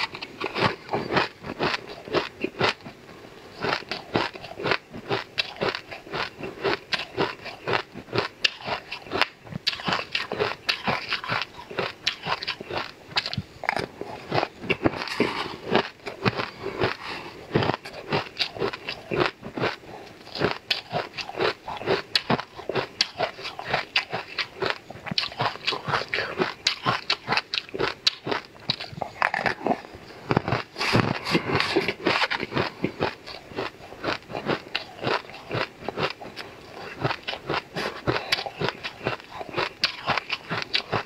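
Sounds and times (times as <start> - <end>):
icy dessert crunched and chewed: 0.0 - 41.0.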